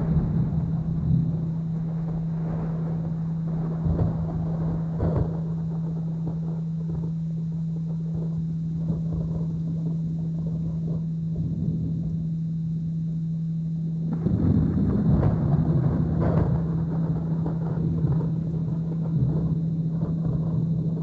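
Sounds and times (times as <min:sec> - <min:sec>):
thunder rumble: 0:00.0 - 0:12.4, 0:14.0 - 0:21.0
rain: 0:00.0 - 0:21.0
steady low tone: 0:00.0 - 0:21.0.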